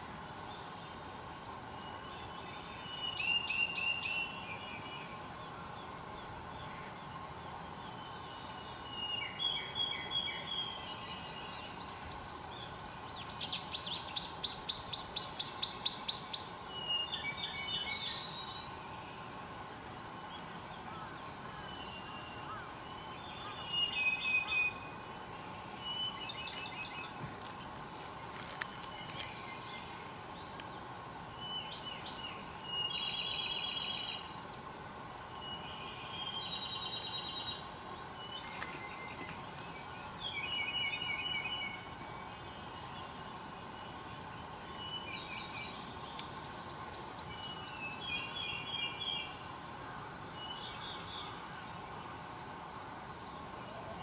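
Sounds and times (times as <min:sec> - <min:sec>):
songbirds singing trills: 0:00.4 - 0:19.3, 0:20.1 - 0:54.0.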